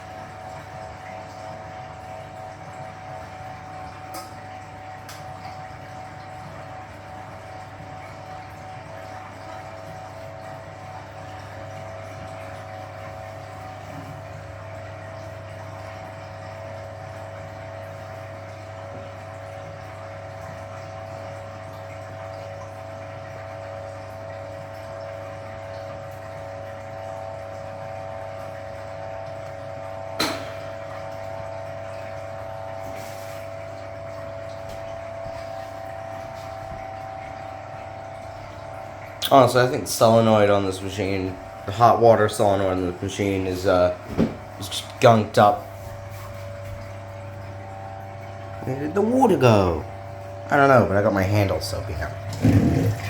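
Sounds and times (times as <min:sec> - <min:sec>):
drain pump humming: 0:00.0 - 0:53.0.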